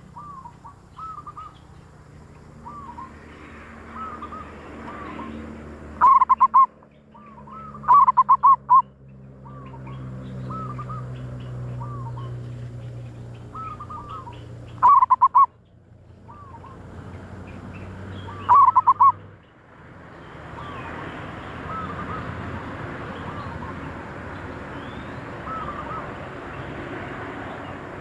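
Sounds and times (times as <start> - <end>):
doves cooing: 0.0 - 8.8, 10.5 - 15.5, 16.2 - 19.2, 20.5 - 28.0.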